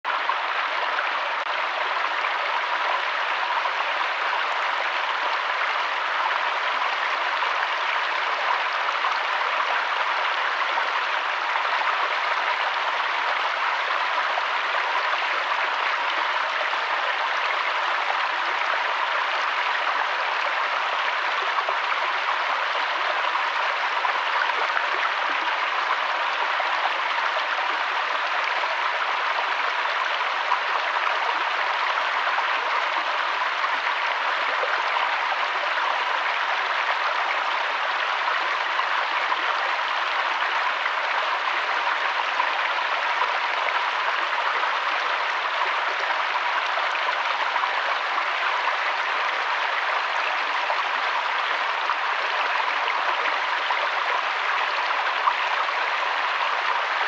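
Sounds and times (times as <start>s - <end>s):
stream splashing over stones: 0.1s - 57.0s.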